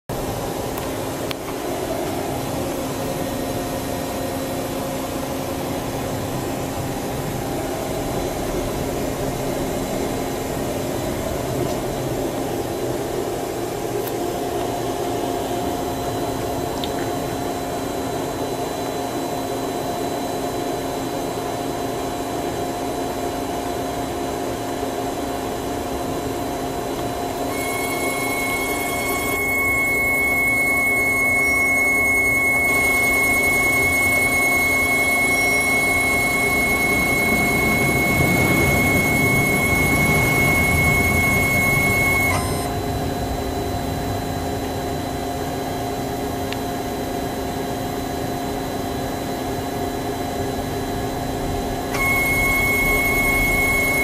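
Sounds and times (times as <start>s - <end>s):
lathe mechanical hum: 0.1s - 54.0s.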